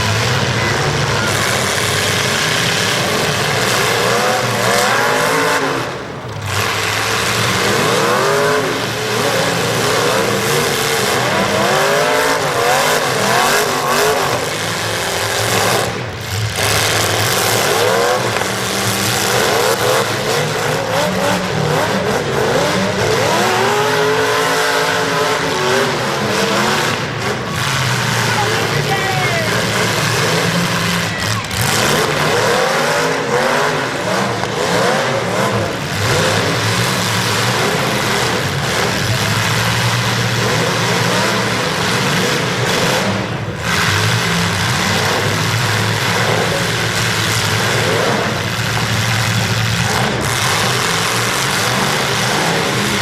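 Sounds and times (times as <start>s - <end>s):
arena noise: 0.0s - 53.0s
car engines revving hard: 0.0s - 53.0s.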